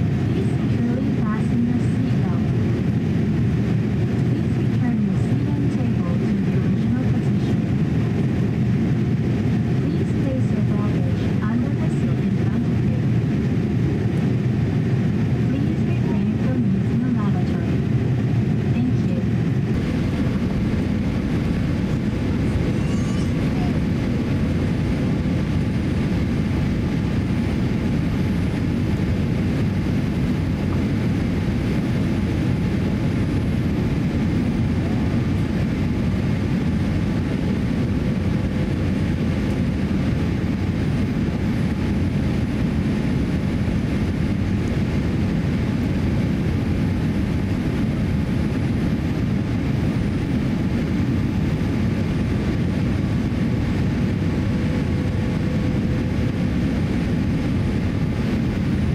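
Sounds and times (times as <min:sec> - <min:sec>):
airliner engine and airflow rumble: 0:00.0 - 0:58.9.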